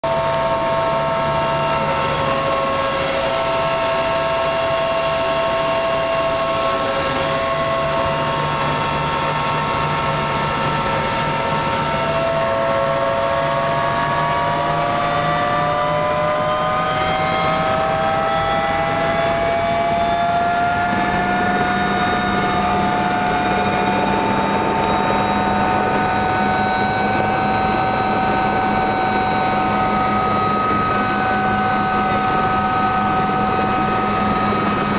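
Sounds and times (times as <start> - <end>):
helicopter engine and rotor drone: 0.0 - 34.9
high engine whine: 0.0 - 34.9.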